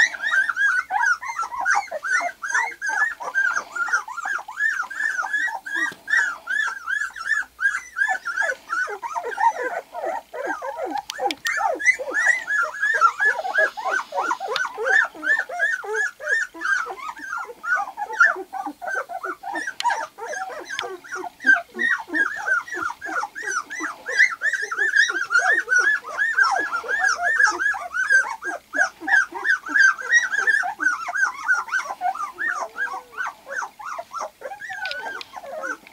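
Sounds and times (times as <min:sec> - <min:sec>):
puppies whimpering and squeaking: 0:00.0 - 0:35.9.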